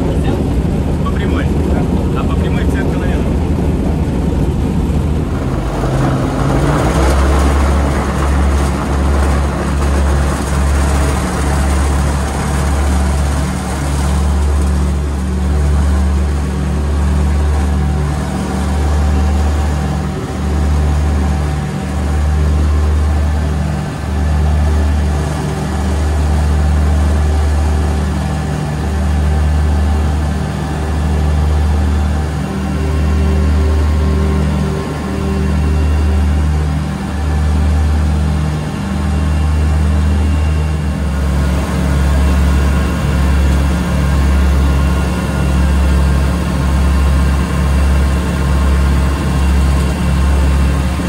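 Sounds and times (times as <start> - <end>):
aircraft engines droning: 0.0 - 51.0.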